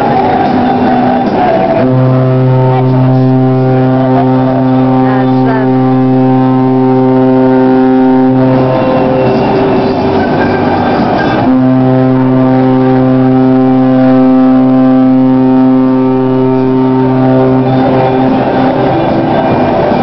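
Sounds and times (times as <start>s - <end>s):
deep ship horn blast: 0.0s - 20.0s
second ship horn: 0.0s - 20.0s.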